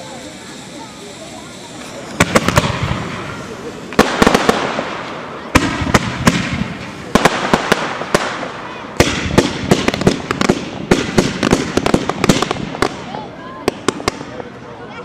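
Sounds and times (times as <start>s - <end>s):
fireworks bangs with rumbling echo: 0.0s - 14.7s.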